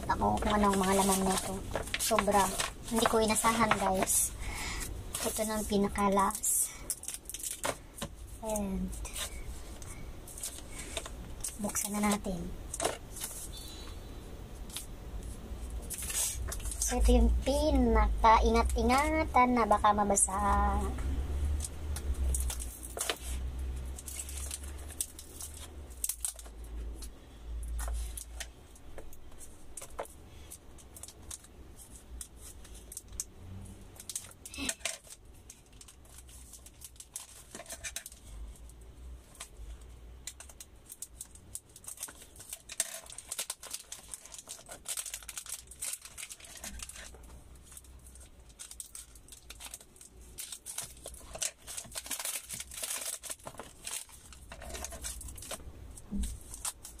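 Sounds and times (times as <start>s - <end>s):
wrapping crinkling: 0.0s - 57.0s.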